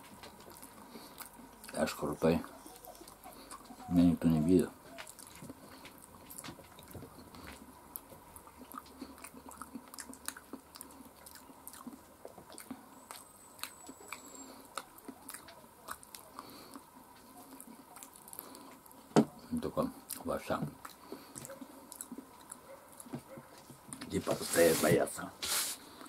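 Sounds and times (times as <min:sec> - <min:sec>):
person chewing food: 0:00.0 - 0:24.1.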